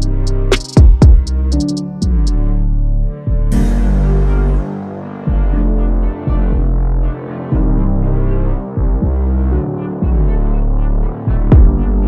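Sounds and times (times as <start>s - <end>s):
sustained bass line: 0.0s - 12.0s.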